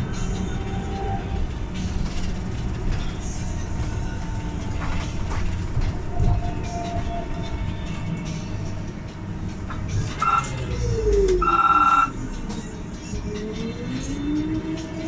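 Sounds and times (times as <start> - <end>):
trolleybus cabin rumble: 0.0 - 15.0.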